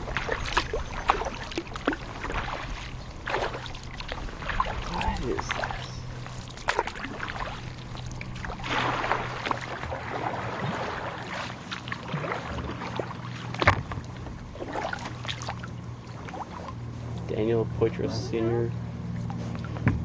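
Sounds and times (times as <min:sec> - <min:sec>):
paddle strokes splashing: 0:00.0 - 0:18.1, 0:18.7 - 0:20.0.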